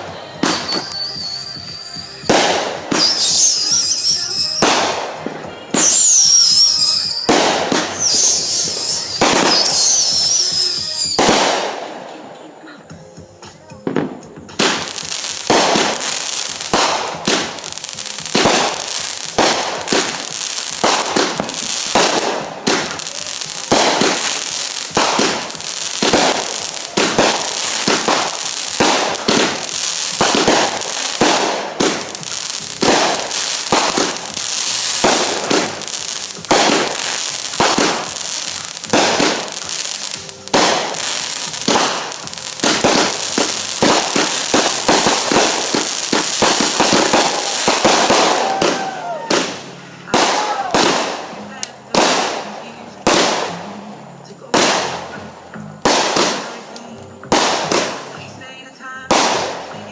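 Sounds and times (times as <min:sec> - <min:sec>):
firework bursts with crackle: 0:00.0 - 0:13.1, 0:13.8 - 0:59.9.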